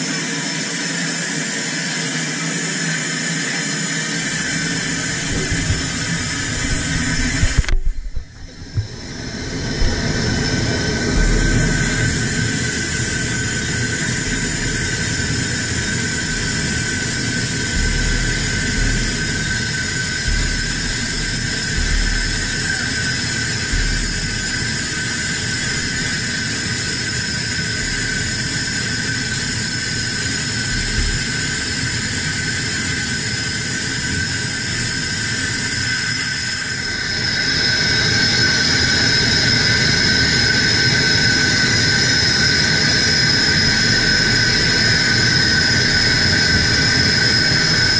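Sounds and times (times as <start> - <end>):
air hissing through valves: 4.3 - 47.9.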